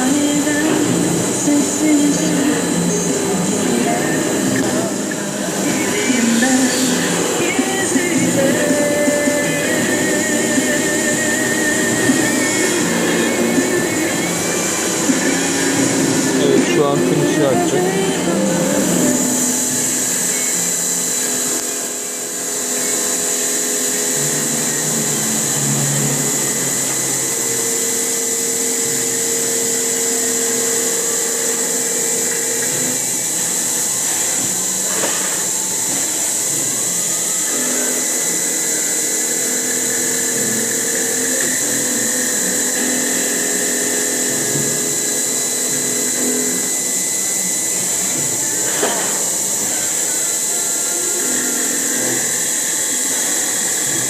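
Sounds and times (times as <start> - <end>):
low machine hum: 0.0 - 54.0
milling machine spindle whine: 0.0 - 54.0.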